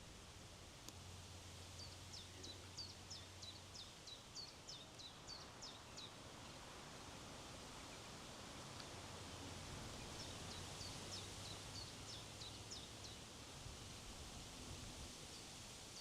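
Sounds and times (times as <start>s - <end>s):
soft wind hiss: 0.0s - 16.0s.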